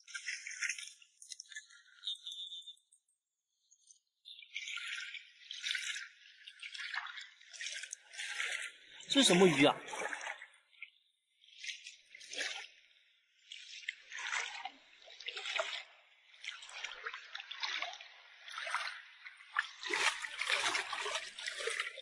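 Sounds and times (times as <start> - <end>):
water sloshing and splashing: 0.0 - 2.5, 3.4 - 22.0.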